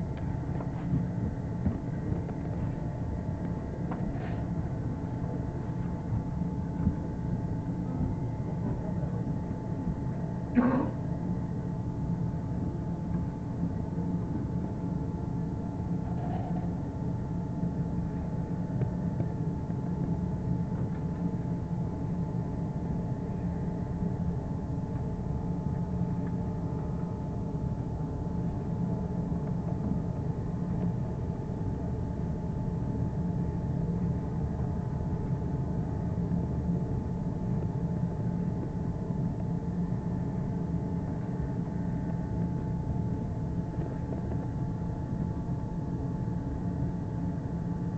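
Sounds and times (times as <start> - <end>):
faint steady whine: 0.0 - 47.9.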